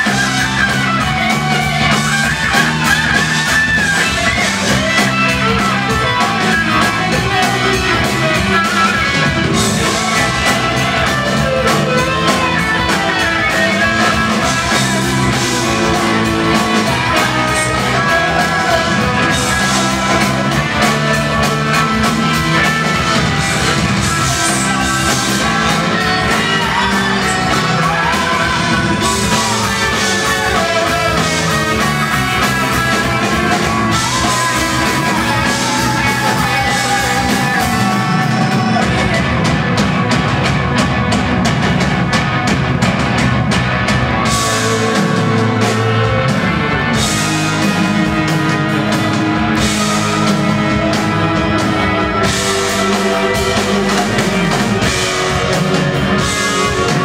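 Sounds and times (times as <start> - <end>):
loud rock band playing: 0.0 - 57.0.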